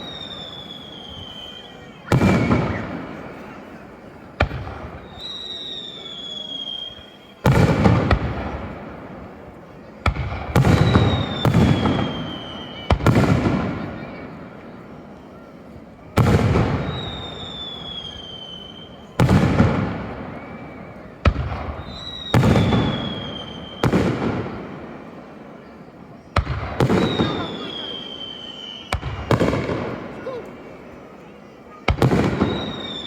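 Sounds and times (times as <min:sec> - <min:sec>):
firework whistles: 0:00.0 - 0:03.7, 0:04.4 - 0:08.8, 0:10.4 - 0:14.4, 0:16.2 - 0:30.8, 0:31.9 - 0:33.0.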